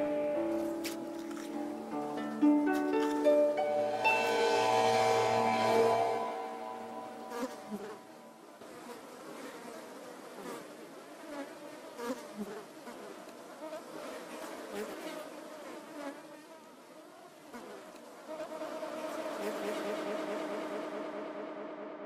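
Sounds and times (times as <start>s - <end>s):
flies buzzing: 0.0s - 21.7s.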